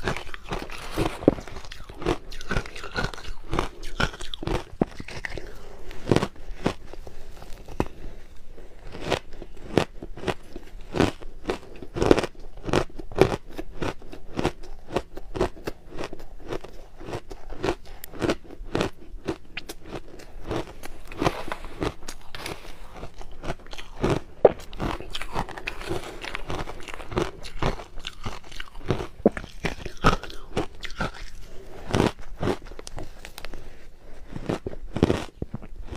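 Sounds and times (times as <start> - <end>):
person crunching ice: 0.0 - 35.9.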